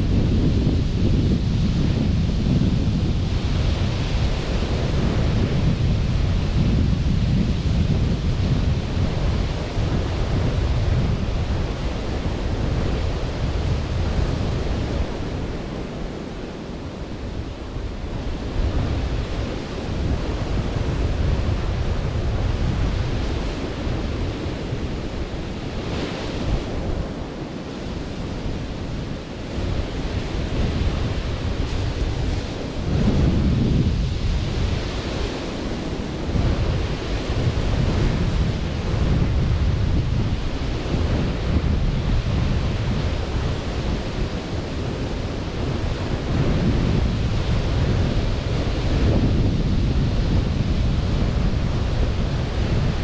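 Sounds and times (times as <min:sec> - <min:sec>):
surf washing onto beach: 0:00.0 - 0:53.0
wind buffeting microphone: 0:00.0 - 0:53.0.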